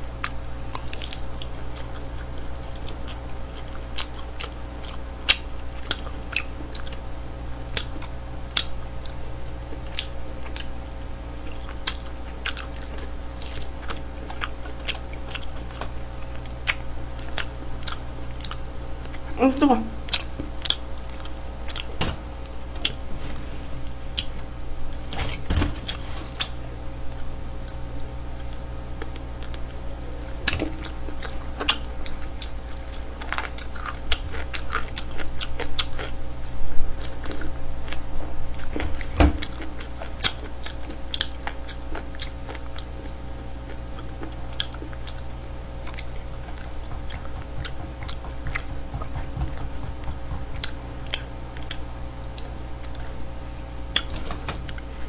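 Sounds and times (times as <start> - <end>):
low electrical hum: 0.0 - 55.0
chewing and biting food: 0.1 - 19.4, 20.0 - 23.1, 23.8 - 53.2, 53.8 - 55.0.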